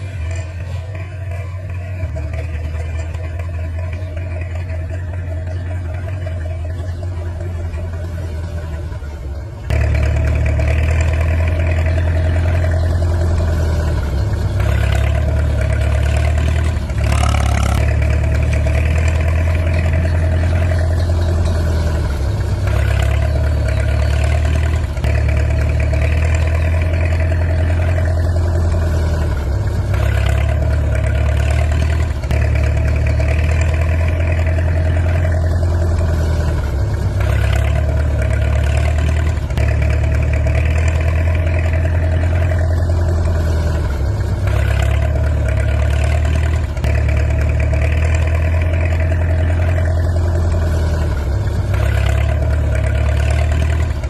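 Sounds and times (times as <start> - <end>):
toy tractor engine drone: 0.0 - 54.0.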